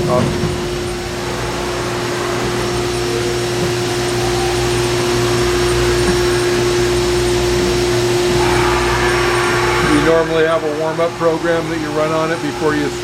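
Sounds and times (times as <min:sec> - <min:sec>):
milling machine humming and whining: 0:00.0 - 0:13.0.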